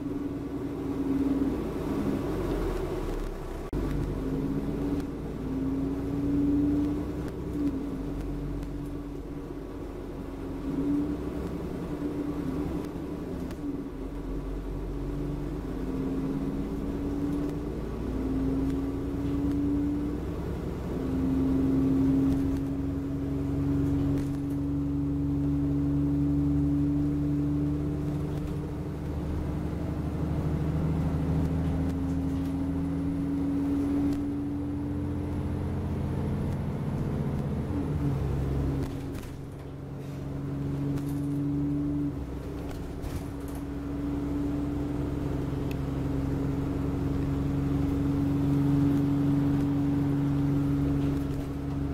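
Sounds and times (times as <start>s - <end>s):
bus engine droning: 0.0s - 51.9s.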